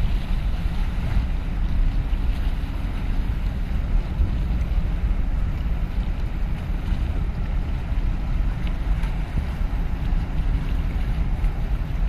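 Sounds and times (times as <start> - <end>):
small waves splashing on concrete: 0.0 - 12.0
wind buffeting microphone: 0.0 - 12.0.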